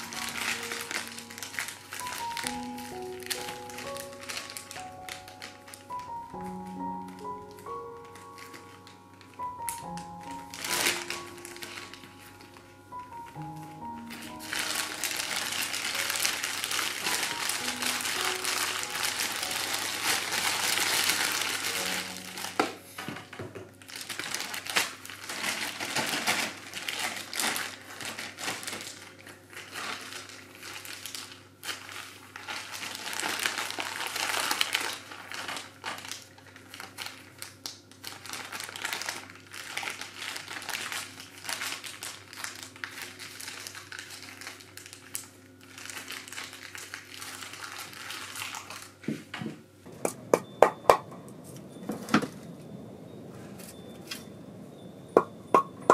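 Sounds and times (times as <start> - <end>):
plastic bag crinkling: 0.0 - 49.1.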